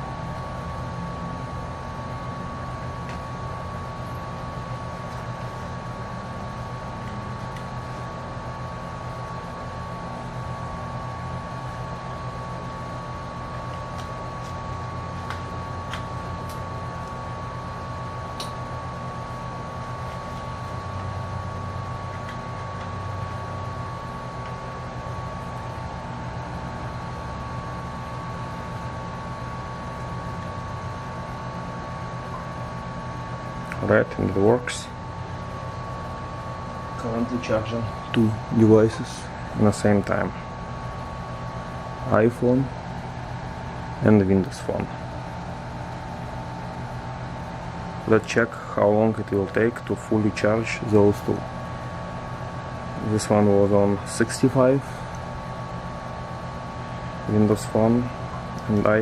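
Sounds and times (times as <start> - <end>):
high whine: 0.0 - 59.0
machine hum and hiss: 0.0 - 59.0.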